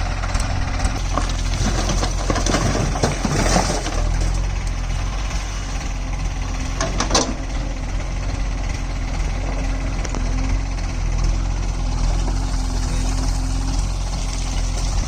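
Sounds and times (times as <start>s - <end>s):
tractor diesel engine droning: 0.0s - 15.0s.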